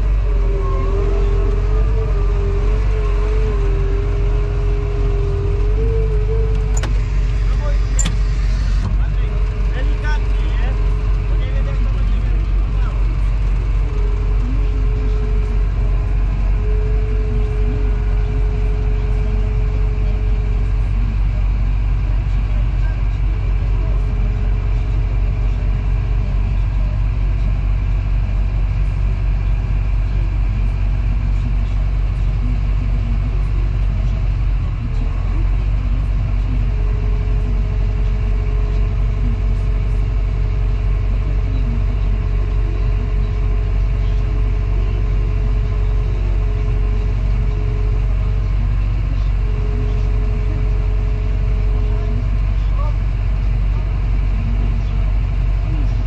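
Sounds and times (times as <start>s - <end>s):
diesel engine rumbling: 0.0s - 56.0s
faint steady whine: 0.0s - 56.0s.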